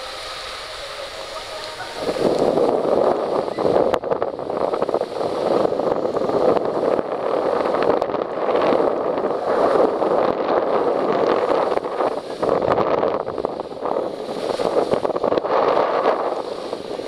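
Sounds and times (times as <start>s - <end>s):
skis sliding on snow: 0.0s - 3.4s, 4.5s - 12.7s, 13.9s - 17.0s
wind rushing over microphone: 0.0s - 17.0s.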